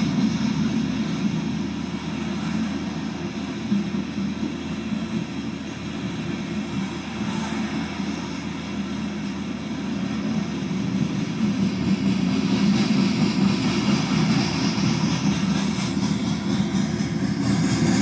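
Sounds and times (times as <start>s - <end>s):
hiss: 0.0s - 18.0s
train wheels rumbling on rail: 0.0s - 18.0s.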